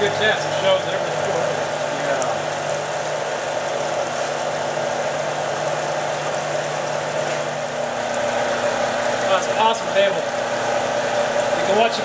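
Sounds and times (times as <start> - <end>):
machine hum and vibration: 0.0 - 12.0
water washing over deck: 0.0 - 12.0.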